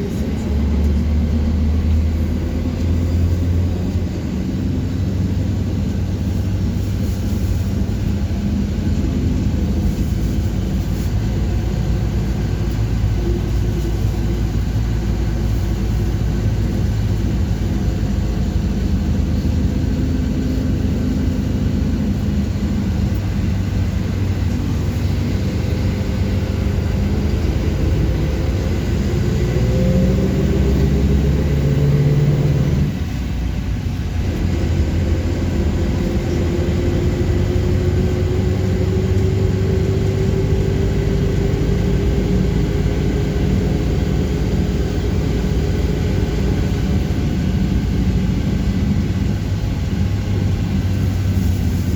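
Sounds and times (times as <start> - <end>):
bus engine: 0.0 - 51.9
road noise: 0.0 - 51.9.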